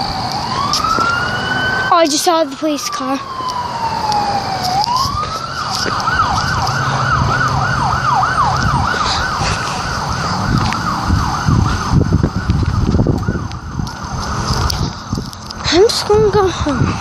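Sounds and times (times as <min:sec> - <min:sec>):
police siren yelping: 0:00.0 - 0:15.2.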